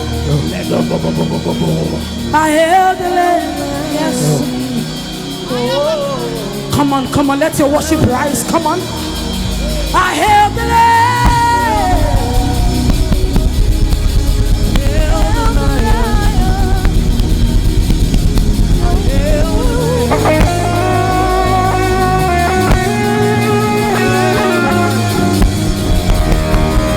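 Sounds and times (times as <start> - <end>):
melodic lead line: 0.0 - 26.9
drums: 3.5 - 26.9
live band playing: 3.8 - 26.9.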